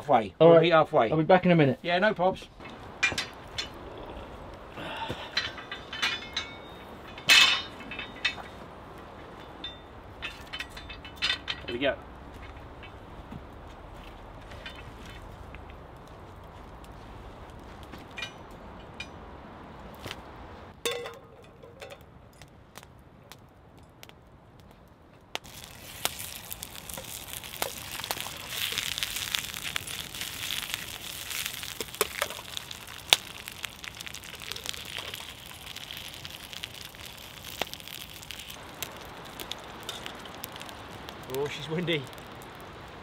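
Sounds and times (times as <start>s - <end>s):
wood fire crackling and popping: 1.4s - 43.0s.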